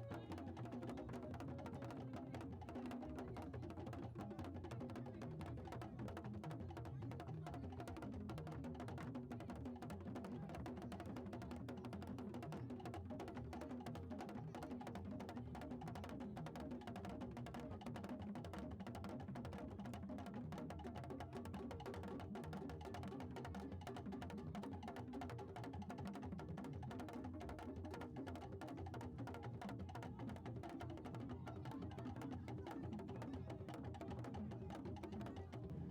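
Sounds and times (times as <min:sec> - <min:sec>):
music with drums and percussion: 0:00.0 - 0:35.9.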